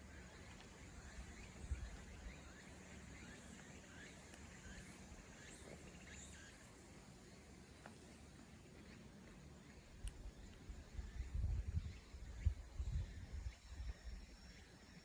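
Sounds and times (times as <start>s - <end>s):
quiet bird chirps: 0.0s - 15.0s.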